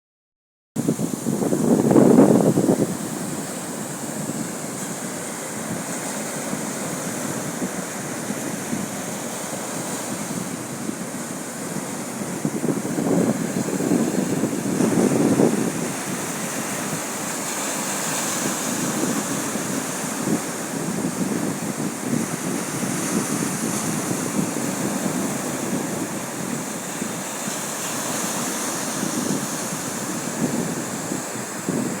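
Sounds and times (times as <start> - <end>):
sea waves washing onto beach: 0.8 - 32.0
wind blowing across microphone: 0.8 - 32.0.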